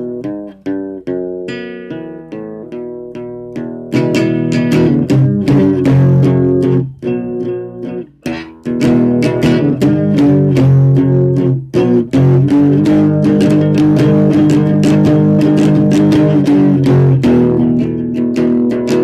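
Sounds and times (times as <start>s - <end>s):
plucked guitar music with bass: 0.0s - 19.0s.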